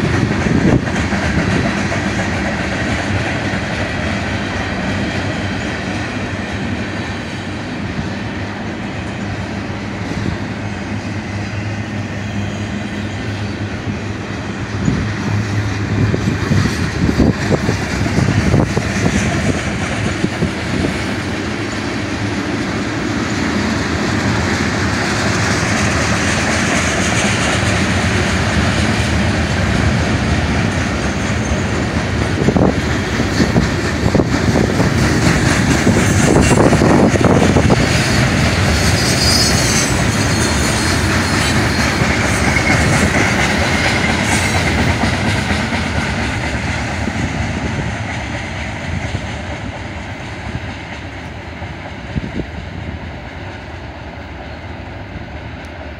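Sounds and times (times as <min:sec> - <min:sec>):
wheels clacking over rail joints: 0:00.0 - 0:54.6
freight train rumbling: 0:00.0 - 0:55.9.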